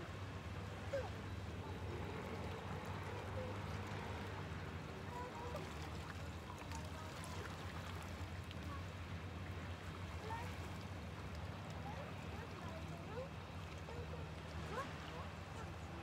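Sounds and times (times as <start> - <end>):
distant boat motor hum: 0.0 - 16.0
waves lapping over rocks: 0.0 - 16.0.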